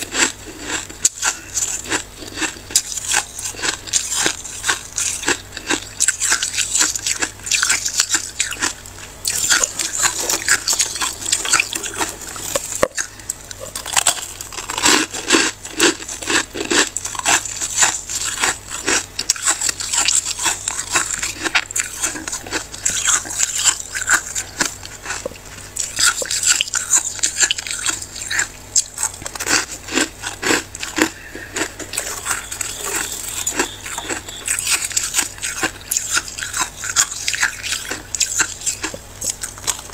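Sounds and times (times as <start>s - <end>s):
freezer frost crunching: 0.0s - 39.9s.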